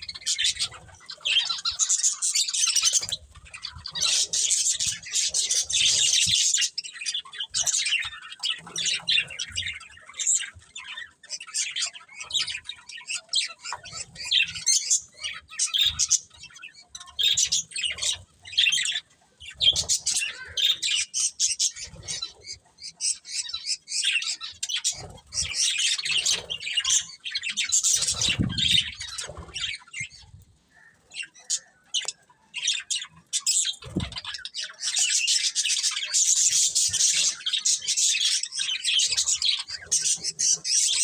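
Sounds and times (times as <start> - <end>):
budgerigars chirping and squawking: 0.0 - 41.0.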